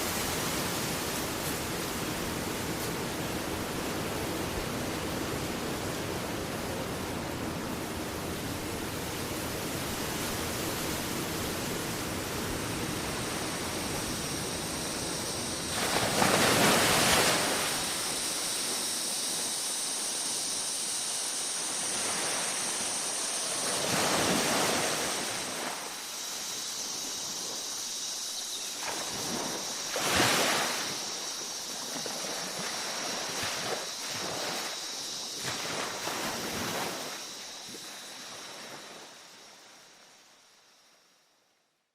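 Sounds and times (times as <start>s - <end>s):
big waves crashing: 0.0s - 39.5s
waves breaking on a beach: 0.0s - 41.2s.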